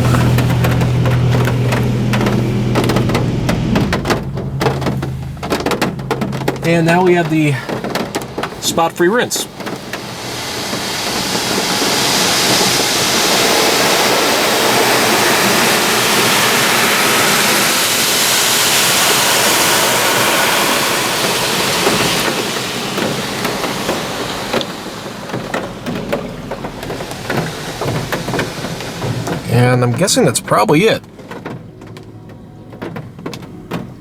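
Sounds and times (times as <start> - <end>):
car wash water spraying: 0.0 - 34.0.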